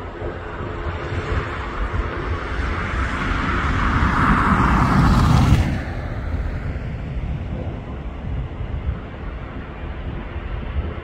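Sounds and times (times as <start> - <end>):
jet engine roar: 0.0 - 11.0
wind rumble on microphone: 0.0 - 11.0.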